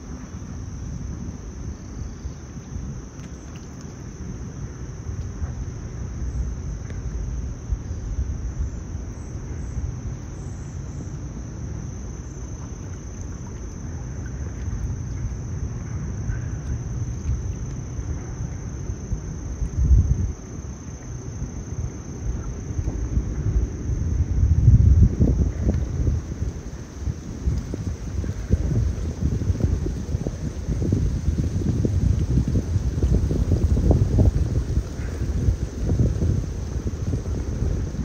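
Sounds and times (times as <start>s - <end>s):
insects droning: 0.0s - 38.0s
wind on microphone: 0.0s - 38.0s.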